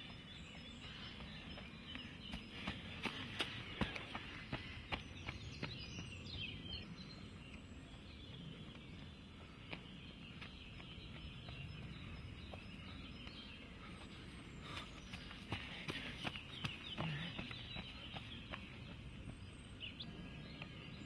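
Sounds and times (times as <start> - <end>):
footsteps on dirt path: 0.0 - 6.8, 7.9 - 21.0
faint outdoor ambience: 0.0 - 21.0.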